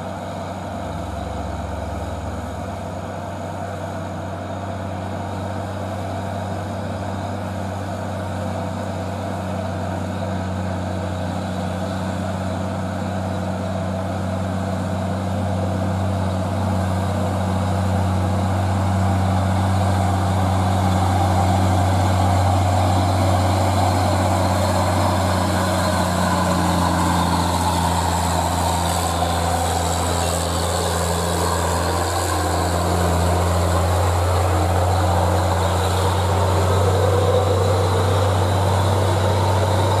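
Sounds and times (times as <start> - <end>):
truck diesel engine droning: 0.0 - 40.0.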